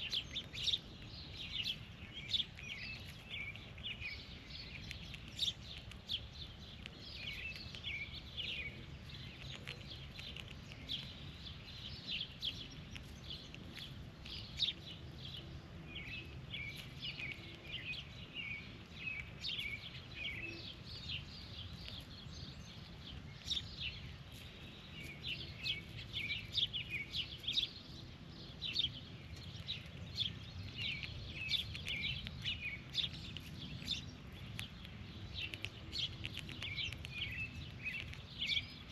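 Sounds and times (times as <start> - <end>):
birds chirping: 0.0 - 38.9
steady low rumble: 0.0 - 38.9.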